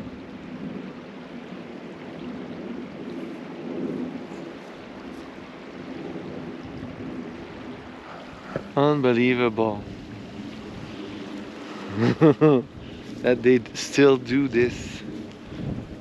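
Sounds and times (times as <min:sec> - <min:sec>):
jet airliner drone overhead: 0:00.0 - 0:16.0.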